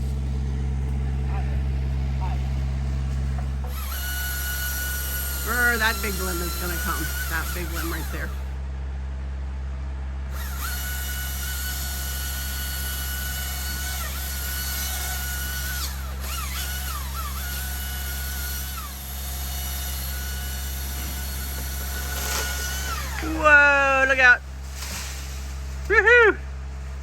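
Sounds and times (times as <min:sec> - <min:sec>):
low engine drone: 0:00.0 - 0:13.3, 0:14.0 - 0:27.0
chainsaw cutting wood: 0:01.8 - 0:08.5, 0:10.3 - 0:25.9.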